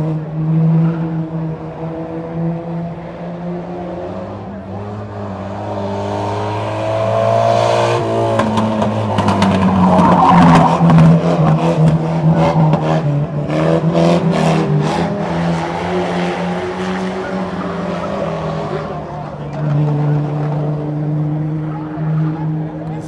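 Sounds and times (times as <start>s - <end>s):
race car engines running loud: 0.0s - 23.0s.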